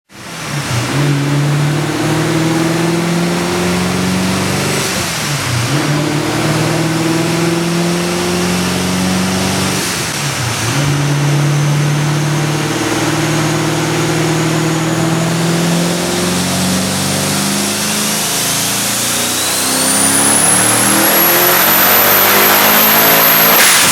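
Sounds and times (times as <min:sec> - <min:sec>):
engine running hard on dyno: 0:00.1 - 0:23.9
turbo whine: 0:00.8 - 0:23.9.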